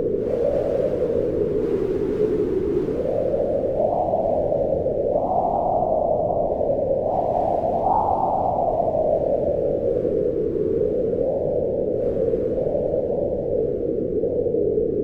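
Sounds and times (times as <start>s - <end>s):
wind blowing in gusts: 0.0s - 15.0s.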